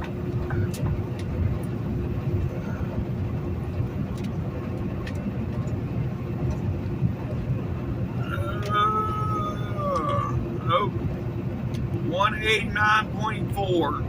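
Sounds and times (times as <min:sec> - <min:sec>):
truck engine drone in cab: 0:00.0 - 0:14.0.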